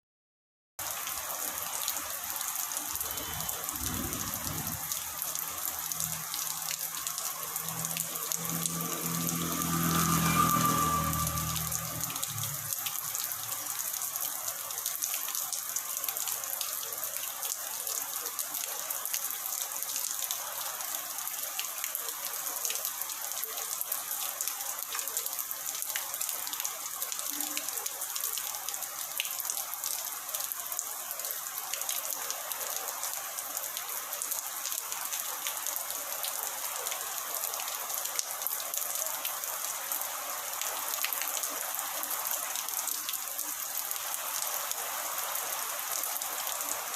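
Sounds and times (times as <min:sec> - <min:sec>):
rain falling steadily: 0:00.8 - 0:46.9.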